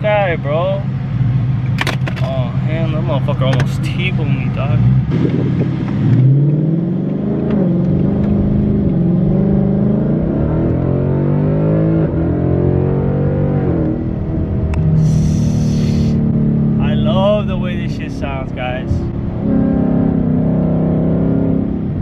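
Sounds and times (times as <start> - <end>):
car engine accelerating hard: 0.2 - 22.0.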